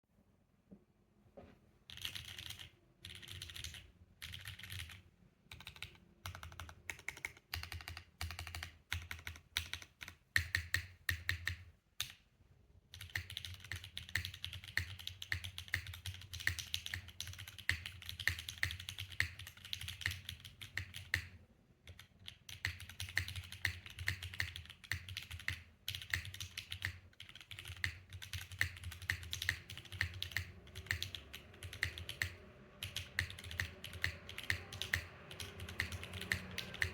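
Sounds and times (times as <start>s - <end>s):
typing on mechanical keyboard: 1.9s - 12.2s, 12.9s - 36.9s.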